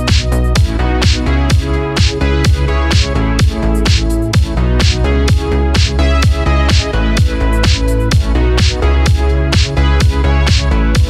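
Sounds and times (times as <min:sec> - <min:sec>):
kick drum: 0:00.0 - 0:11.0.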